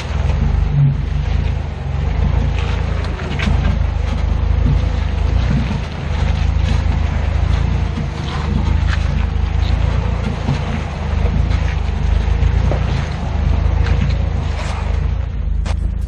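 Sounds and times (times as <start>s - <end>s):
low engine drone: 0.0s - 16.0s
rocks knocking: 0.0s - 16.0s
tyres grinding over stones: 0.0s - 16.0s.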